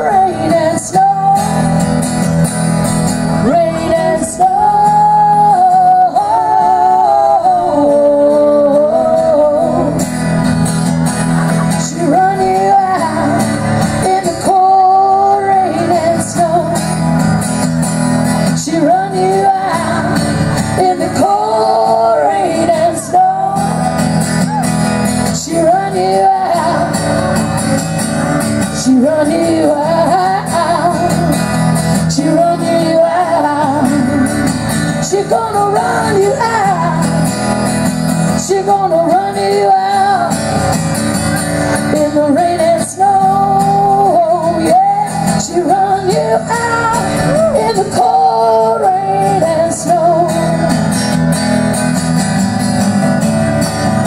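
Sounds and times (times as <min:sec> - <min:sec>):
women singing folk song: 0:00.0 - 0:02.3, 0:03.0 - 0:10.3, 0:11.6 - 0:17.4, 0:18.3 - 0:24.3, 0:25.2 - 0:27.5, 0:28.6 - 0:40.8, 0:41.7 - 0:51.2
strummed acoustic guitar: 0:00.0 - 0:54.0.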